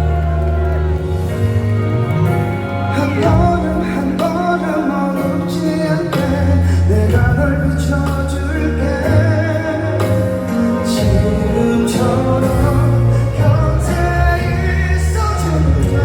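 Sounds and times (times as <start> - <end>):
live pop ballad through pa: 0.0 - 16.0
person singing: 2.8 - 16.0.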